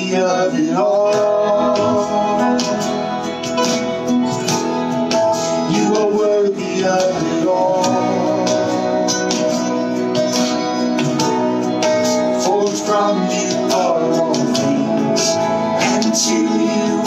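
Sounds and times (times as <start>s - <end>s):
guitar playing: 0.0s - 17.0s
person singing: 0.0s - 17.0s.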